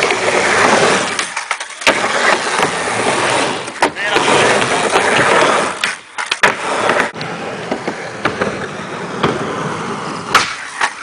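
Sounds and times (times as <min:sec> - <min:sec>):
skateboard clacks: 0:00.0 - 0:09.5
skateboard wheels rolling on concrete: 0:00.0 - 0:11.0.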